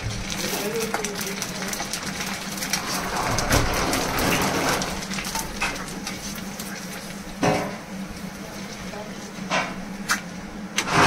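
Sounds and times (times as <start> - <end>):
dough frying in hot oil: 0.0 - 11.0.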